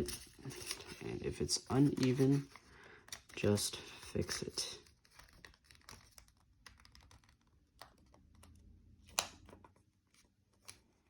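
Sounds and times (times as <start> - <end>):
paper rustling and ticking: 0.0 - 10.9.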